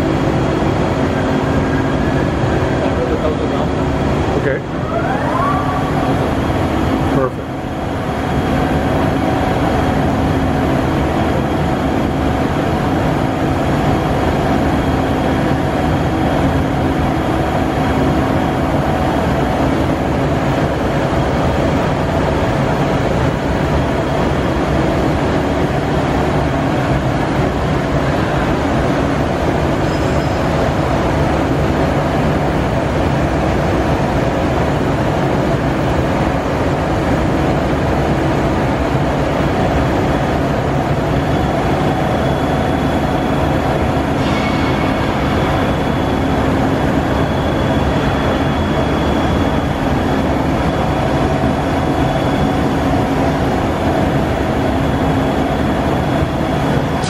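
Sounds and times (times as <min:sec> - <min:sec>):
machine hum with steady tones: 0:00.0 - 0:57.0.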